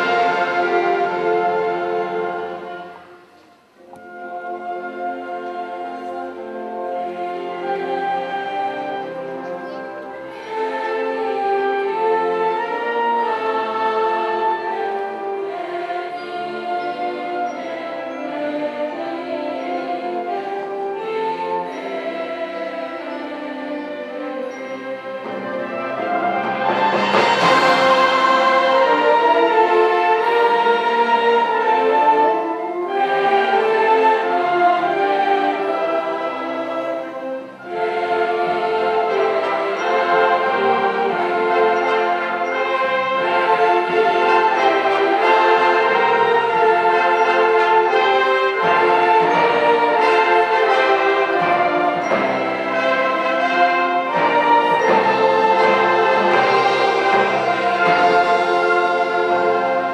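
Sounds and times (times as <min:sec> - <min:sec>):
brass band playing: 0:00.0 - 0:59.9
choir singing: 0:00.0 - 0:59.9.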